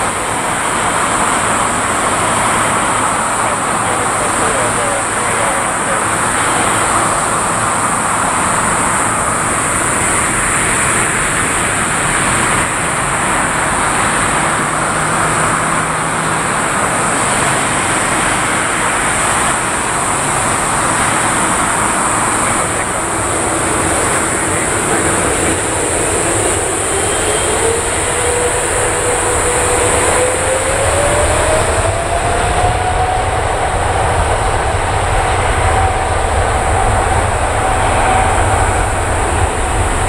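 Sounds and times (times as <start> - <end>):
high-pitched engine whine: 0.0 - 40.0
jet engines running: 0.0 - 40.0.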